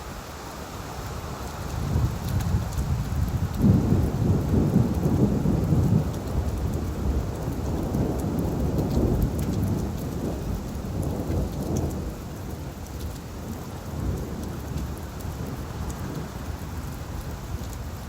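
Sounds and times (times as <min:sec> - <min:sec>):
rain falling on leaves: 0:00.0 - 0:18.0
raindrop ticks: 0:01.4 - 0:18.0.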